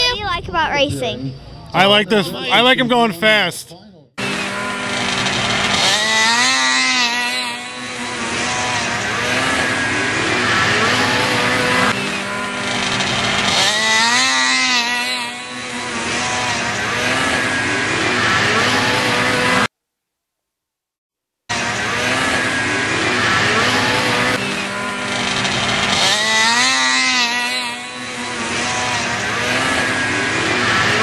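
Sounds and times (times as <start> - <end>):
snowmobile engines revving: 0.0 - 19.7, 21.5 - 31.0.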